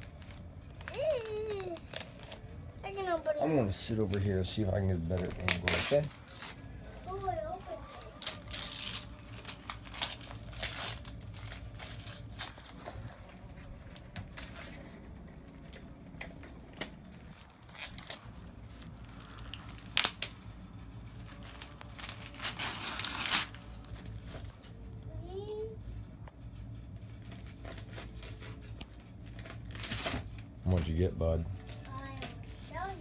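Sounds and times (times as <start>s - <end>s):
wrapping paper tearing: 0.0s - 3.0s, 3.9s - 24.8s, 26.4s - 33.0s.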